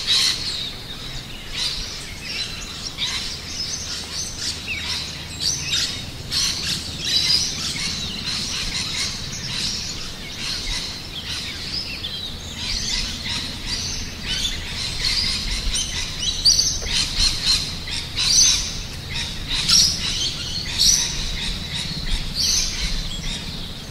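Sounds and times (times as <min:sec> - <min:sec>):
birds chirping and singing: 0:00.0 - 0:23.9.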